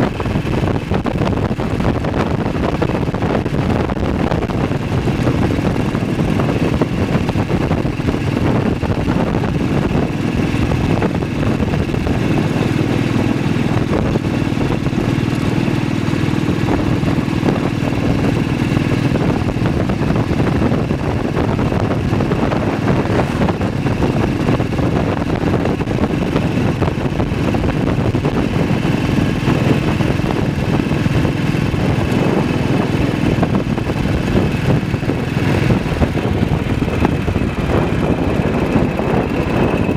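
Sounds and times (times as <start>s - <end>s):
motorcycle engine running: 0.0s - 39.9s
wind rushing: 0.0s - 39.9s
wet road noise: 2.5s - 39.9s.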